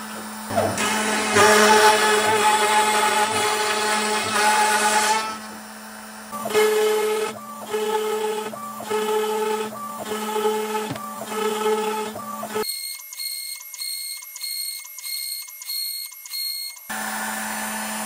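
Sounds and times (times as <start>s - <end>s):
cnc router cutting: 0.0s - 18.0s.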